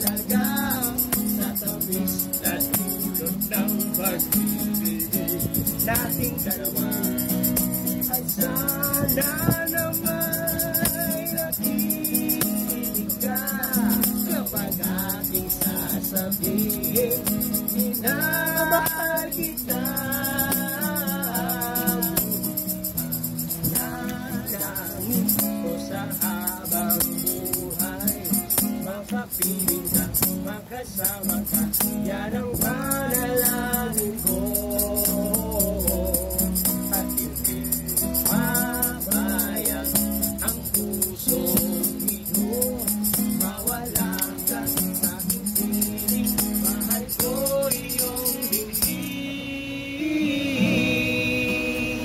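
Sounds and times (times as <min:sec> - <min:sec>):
instrumental backing: 0:00.0 - 0:49.3
light high percussion beat: 0:00.0 - 0:49.3
person singing a love song: 0:00.0 - 0:52.0.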